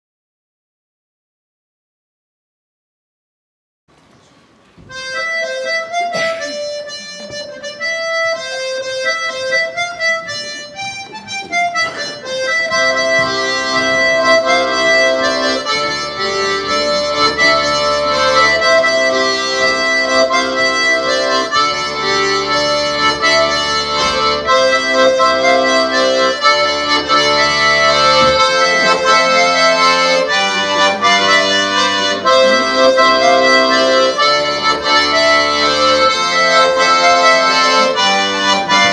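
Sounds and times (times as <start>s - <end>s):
accordion playing dance tune: 4.9s - 38.9s.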